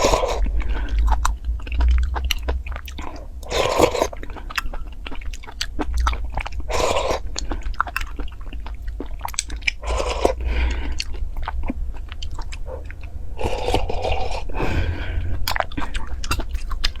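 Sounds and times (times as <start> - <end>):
food crunching: 0.0 - 17.0
person chewing with mouth clicks: 0.0 - 17.0.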